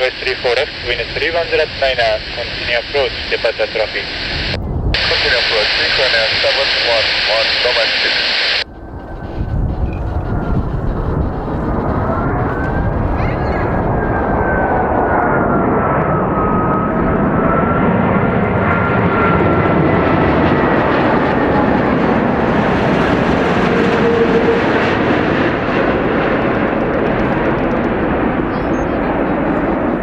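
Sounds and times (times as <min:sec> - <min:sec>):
jet engine roar: 0:00.0 - 0:30.0
jet engine whine: 0:00.0 - 0:30.0.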